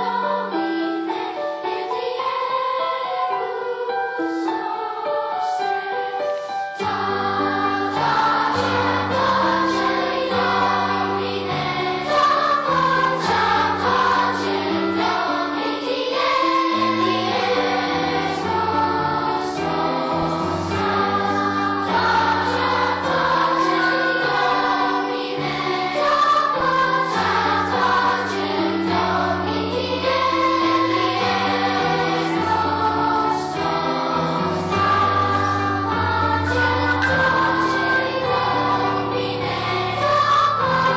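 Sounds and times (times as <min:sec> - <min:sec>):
children's choir singing: 0:00.0 - 0:40.9
low accompanying notes: 0:06.8 - 0:40.9.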